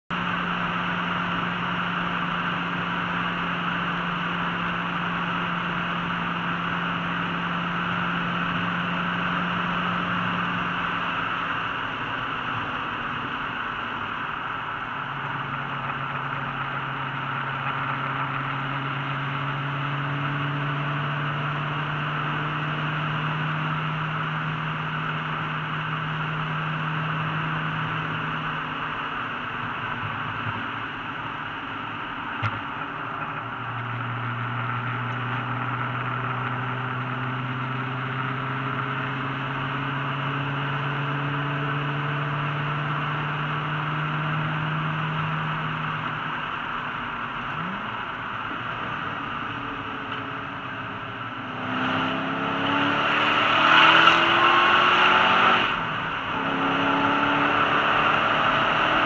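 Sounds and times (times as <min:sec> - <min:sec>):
car engine droning: 0:00.1 - 0:59.0
road and wind noise: 0:00.1 - 0:59.0.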